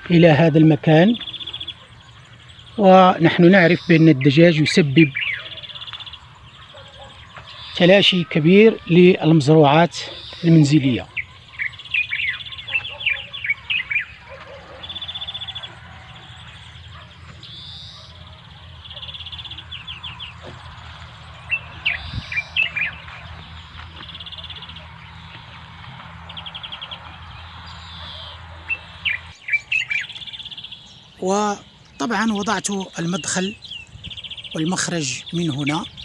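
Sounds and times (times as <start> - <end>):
small birds chirping and trilling: 0.0 - 36.0.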